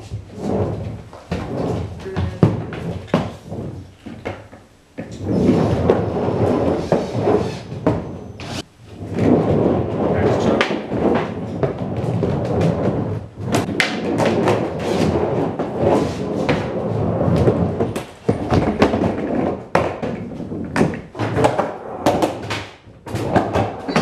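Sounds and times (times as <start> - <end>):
skateboard thuds and clacks: 0.0 - 24.0
skateboard wheels rumbling: 0.0 - 24.0.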